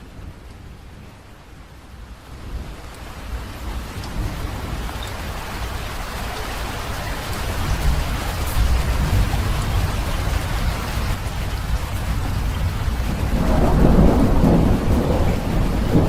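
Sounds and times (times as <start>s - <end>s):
low rumble of thunder: 0.0s - 6.1s, 7.2s - 16.0s
rain falling: 0.0s - 16.0s.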